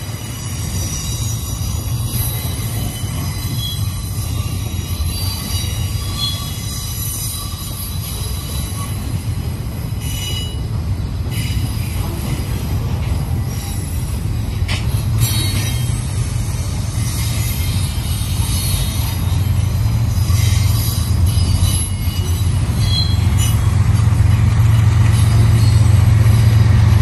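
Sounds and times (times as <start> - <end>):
high wheel squeal: 0.0 - 26.9
train wheels rumbling on rail: 0.0 - 27.0.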